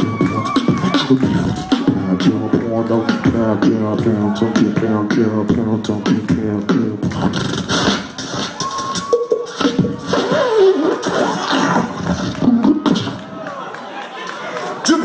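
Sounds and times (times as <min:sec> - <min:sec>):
human beatboxing: 0:00.0 - 0:13.4.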